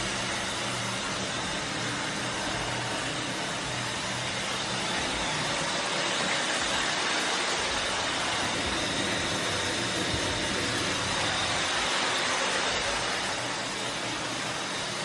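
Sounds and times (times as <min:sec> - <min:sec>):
shower water running: 0:00.0 - 0:15.0.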